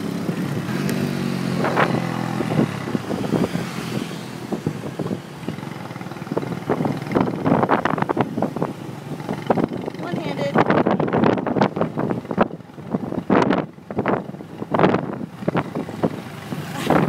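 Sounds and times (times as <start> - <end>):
motorbike engine: 0.0 - 17.0
traffic noise: 0.0 - 17.0
wind buffeting microphone: 0.0 - 17.0.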